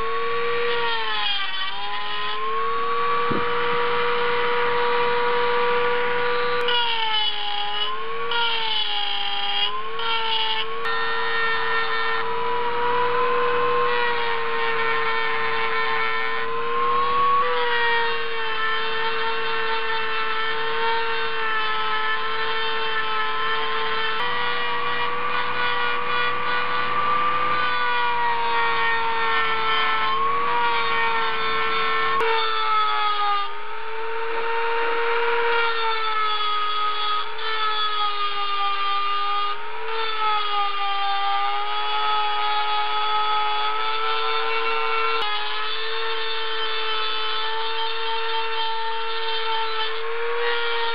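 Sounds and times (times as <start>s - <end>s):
rotary tool grinding metal: 0.0s - 50.9s.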